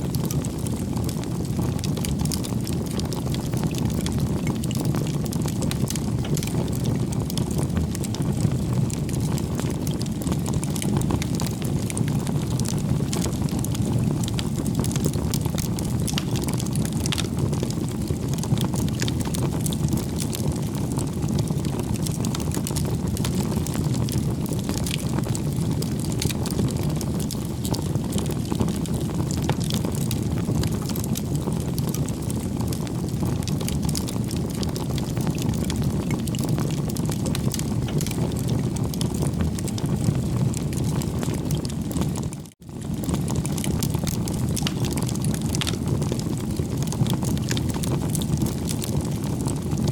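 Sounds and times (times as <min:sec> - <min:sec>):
bonfire flames rumbling: 0:00.0 - 0:49.9
fire crackling and popping: 0:00.0 - 0:49.9.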